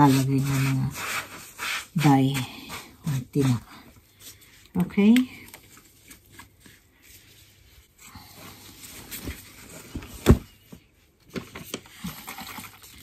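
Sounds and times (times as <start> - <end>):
plastic gloves rustling: 0.0 - 13.0.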